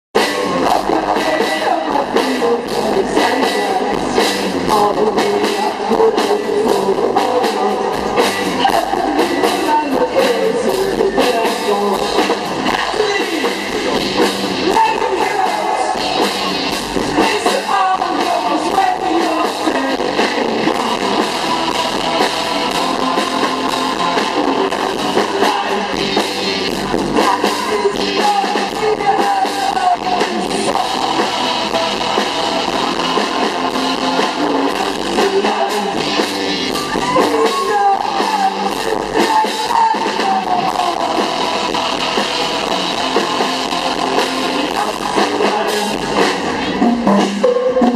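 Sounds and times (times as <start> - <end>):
electric guitar: 0.2 - 47.9
person singing: 0.2 - 47.9.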